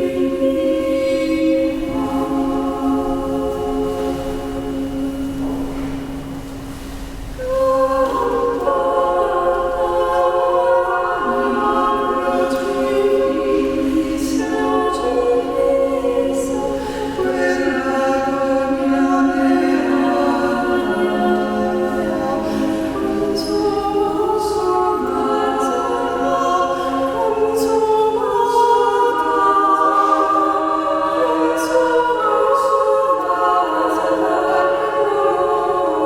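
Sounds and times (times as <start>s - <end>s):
choir singing a slow hymn: 0.0s - 36.0s.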